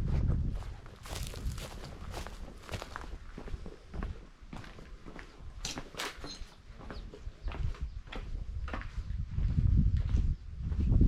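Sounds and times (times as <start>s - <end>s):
wind buffeting microphone: 0.0s - 5.8s, 6.7s - 11.0s
footsteps walking: 0.1s - 10.9s.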